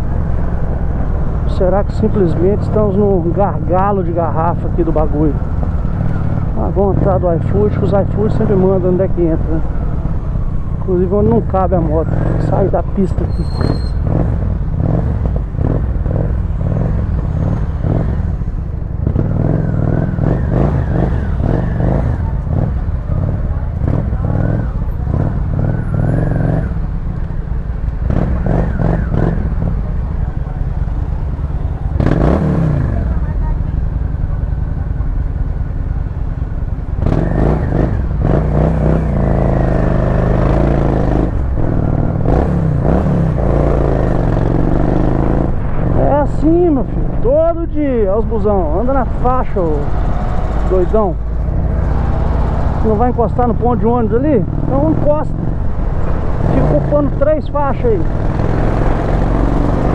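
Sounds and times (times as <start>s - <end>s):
motorcycle engine rumbling: 0.0s - 59.9s
surrounding traffic: 0.0s - 59.9s.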